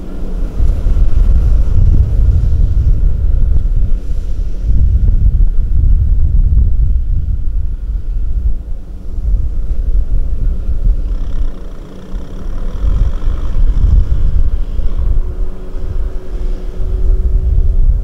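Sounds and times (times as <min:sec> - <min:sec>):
farm machine engine running: 0:00.0 - 0:06.5, 0:07.6 - 0:18.0
faint steady whine: 0:00.0 - 0:18.0
wind rumble on microphone: 0:00.0 - 0:18.0.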